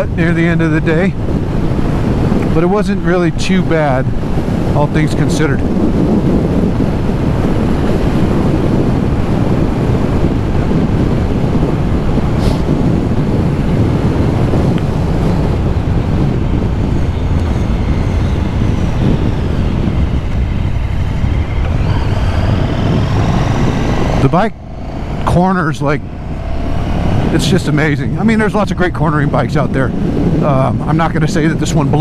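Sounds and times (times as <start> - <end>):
wind rush on microphone: 0.0 - 32.0
motorcycle engine running: 5.6 - 31.9.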